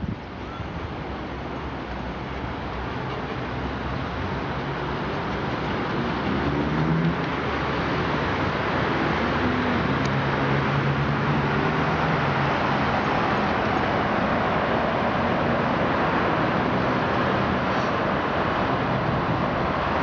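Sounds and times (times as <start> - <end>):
city traffic noise: 0.0 - 20.0.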